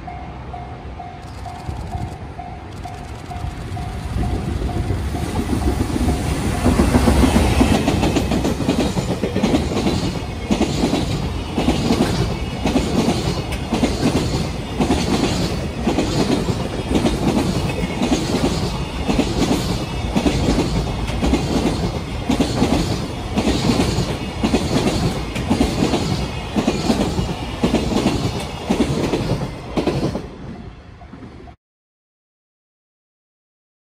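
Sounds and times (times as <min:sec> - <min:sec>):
electric locomotive passing: 0:00.0 - 0:31.6.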